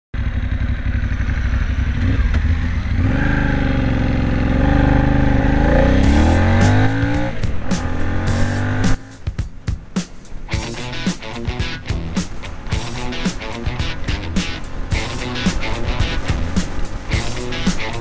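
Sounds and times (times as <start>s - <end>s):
motorcycle engine accelerating: 0.2s - 9.3s, 10.6s - 18.0s.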